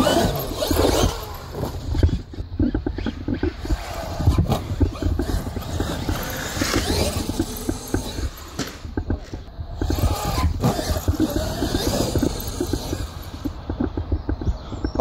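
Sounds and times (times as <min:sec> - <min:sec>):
electric motor whine: 0:00.0 - 0:13.6
low rumble with clicks and knocks: 0:00.2 - 0:15.0.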